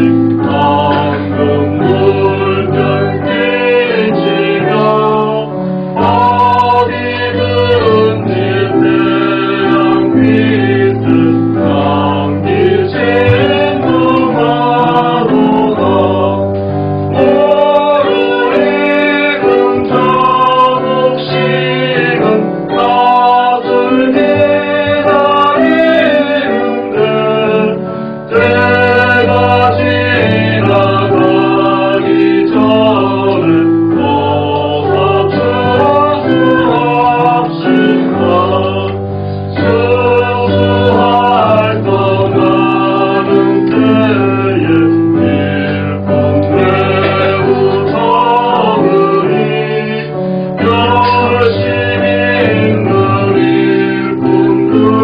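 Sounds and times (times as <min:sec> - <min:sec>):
choir singing a hymn: 0:00.0 - 0:55.0
instrumental accompaniment: 0:00.0 - 0:55.0.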